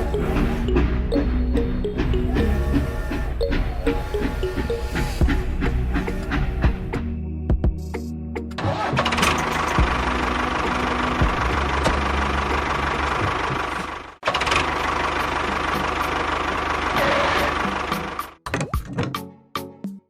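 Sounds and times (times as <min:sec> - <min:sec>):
small tractor engine chugging: 0:00.0 - 0:07.0, 0:09.1 - 0:18.4.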